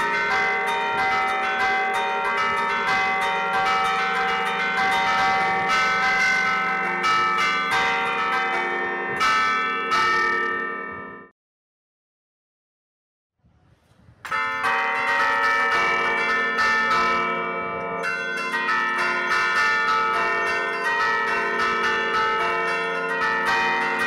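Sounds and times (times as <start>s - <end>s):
church bells pealing: 0.0s - 11.3s, 14.3s - 24.0s.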